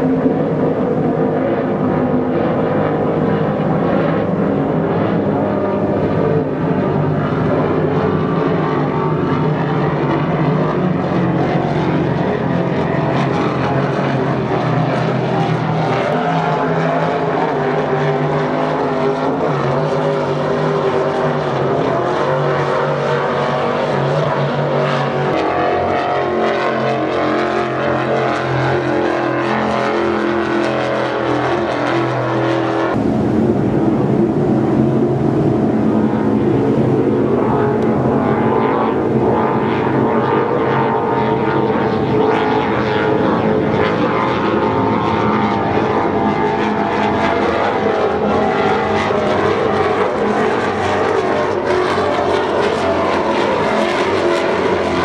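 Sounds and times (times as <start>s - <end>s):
loud engine drone: 0.0s - 55.0s.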